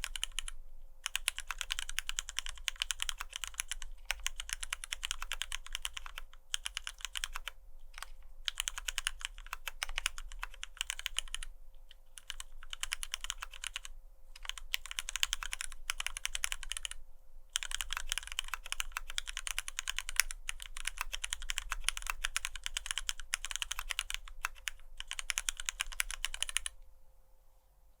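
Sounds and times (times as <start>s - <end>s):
fast typing on mechanical keyboard: 0.0s - 17.0s, 17.6s - 26.8s.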